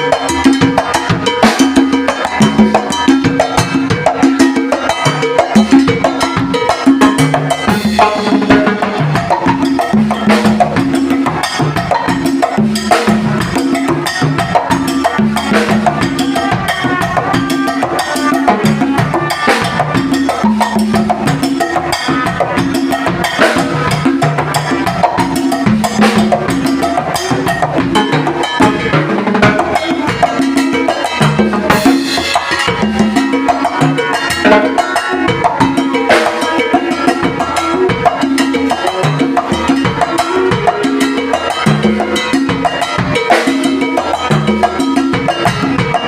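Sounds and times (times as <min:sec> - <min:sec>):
congas played by hand: 0:00.0 - 0:46.0.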